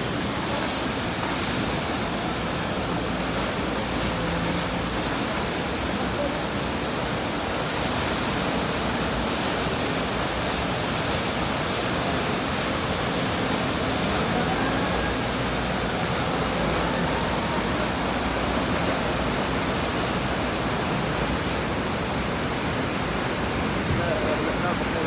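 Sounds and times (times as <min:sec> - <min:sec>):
river torrent rushing: 0:00.0 - 0:25.0.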